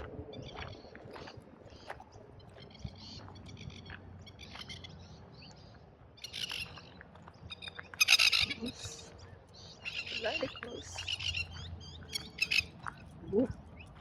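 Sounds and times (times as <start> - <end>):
birds chirping: 0.3 - 14.0.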